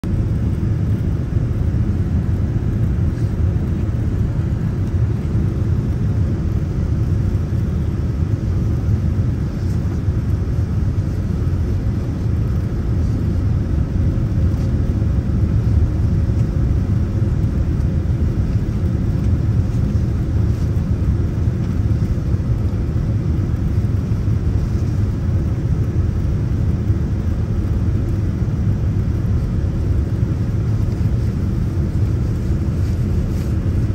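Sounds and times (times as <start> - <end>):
airliner engines and airflow rumble: 0.0 - 33.9
faint steady hum: 0.0 - 33.9.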